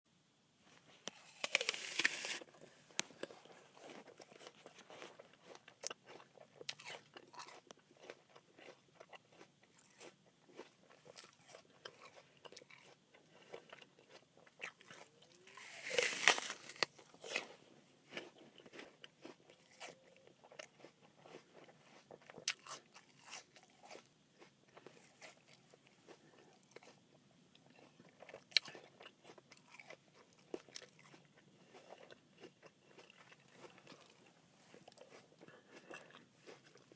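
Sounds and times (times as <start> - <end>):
chewing crunches: 1.0 - 36.9
crunching apple bite: 1.0 - 36.9.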